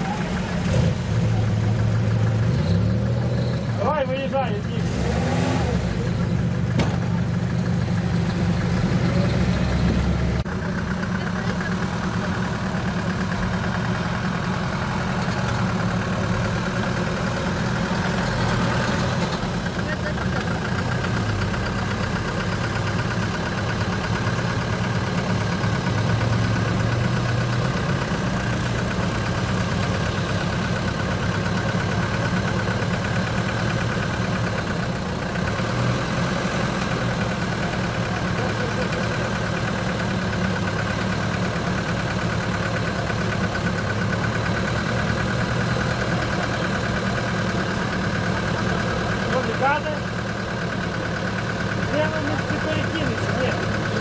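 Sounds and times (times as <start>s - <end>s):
off-road vehicle engine idling: 0.0s - 54.0s.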